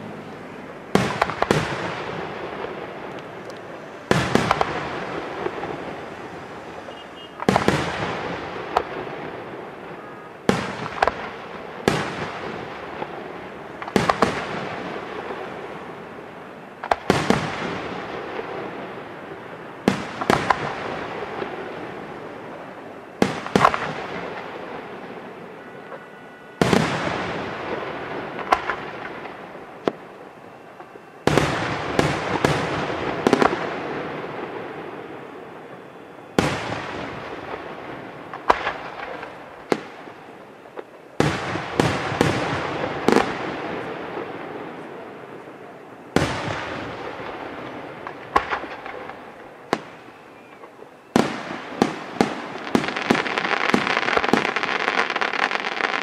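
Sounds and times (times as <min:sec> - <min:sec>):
sharp reports: 0:00.0 - 0:46.2.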